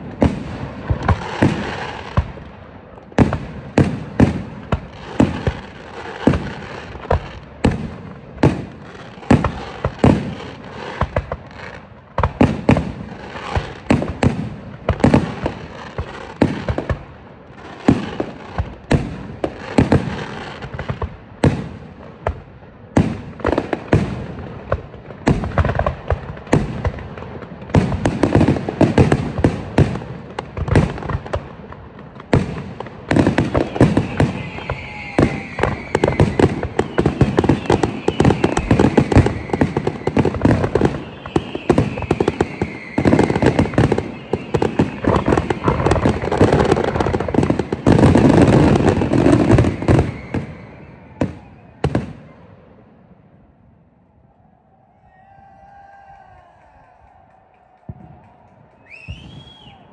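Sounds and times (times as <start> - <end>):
fireworks barrage of sharp bangs: 0.0 - 52.9, 57.8 - 59.9.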